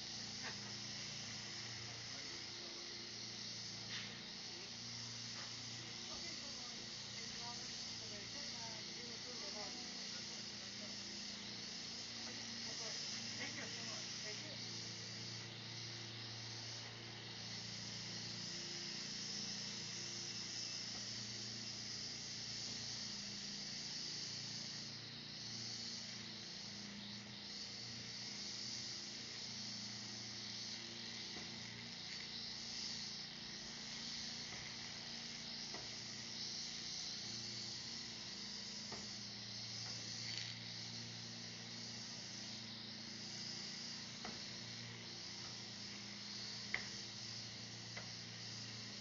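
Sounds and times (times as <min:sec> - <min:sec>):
electric lawn mower running: 0:00.0 - 0:49.0.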